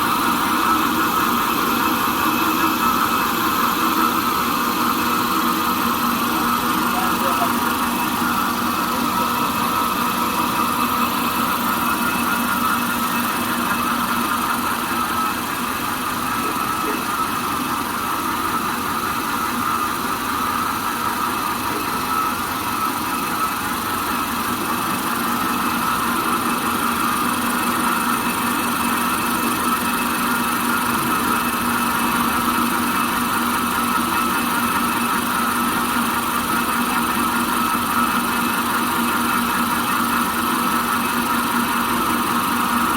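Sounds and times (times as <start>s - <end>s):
high steady machine whine: 0.0s - 42.9s.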